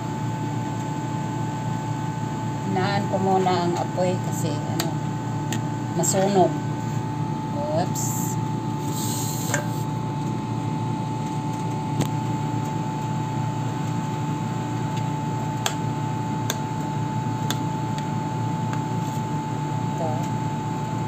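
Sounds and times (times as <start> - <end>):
fan humming: 0.0 - 21.0.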